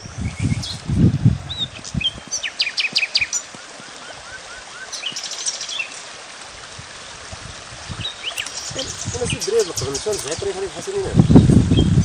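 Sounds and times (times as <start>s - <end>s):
small birds chirping: 0.0s - 0.9s, 1.5s - 6.2s, 7.9s - 12.0s
steady hiss: 0.0s - 11.5s.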